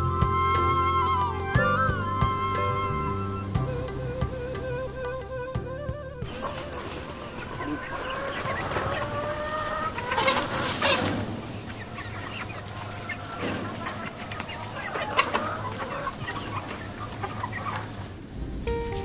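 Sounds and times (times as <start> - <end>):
hens clucking: 0.0 - 3.8, 6.3 - 18.2.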